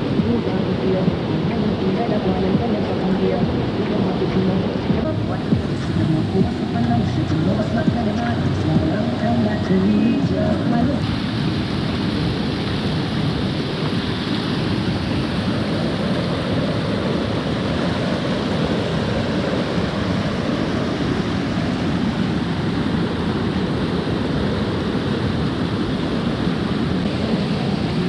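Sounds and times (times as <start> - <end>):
rushing flowing water: 0.0 - 28.0.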